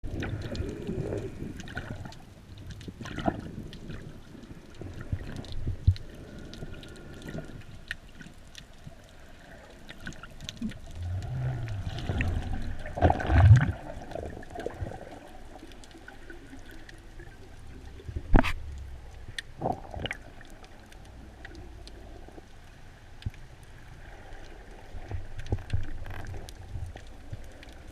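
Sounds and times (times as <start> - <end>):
faint crackling clicks underwater: 0.0 - 27.9
low water movement: 0.0 - 27.9
rush of moving water: 0.0 - 27.9.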